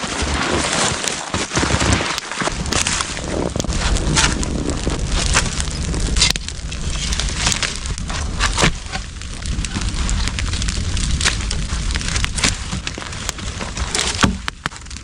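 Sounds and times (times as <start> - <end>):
sharp snaps and crackles: 0.0 - 15.0
wind rumble on microphone: 1.6 - 15.0.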